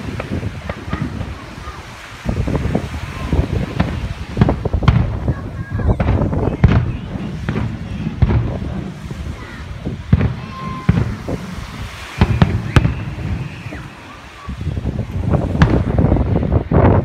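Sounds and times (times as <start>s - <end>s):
fireworks booming and cracking: 0.0s - 17.0s.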